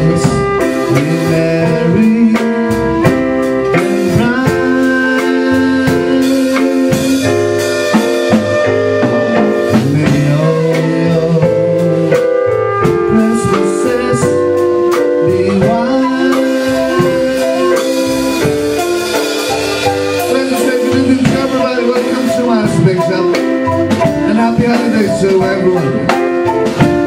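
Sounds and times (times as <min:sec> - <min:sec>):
drum kit with cymbals: 0:00.0 - 0:27.0
keyboard chords: 0:00.0 - 0:27.0
woodwind melody: 0:00.0 - 0:27.0.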